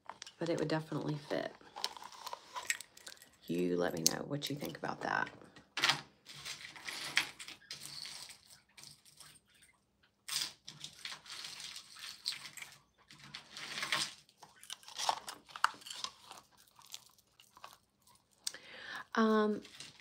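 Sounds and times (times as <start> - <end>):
rustling handling noise: 0.0 - 4.0, 4.6 - 9.7, 10.3 - 18.4, 19.4 - 20.0.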